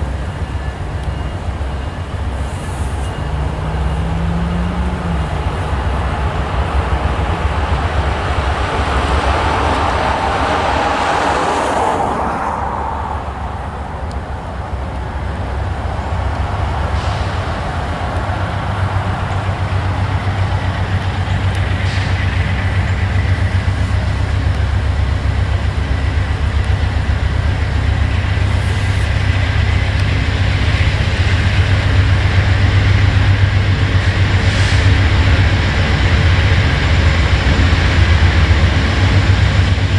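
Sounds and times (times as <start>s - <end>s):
diesel train rumbling: 0.0s - 39.9s.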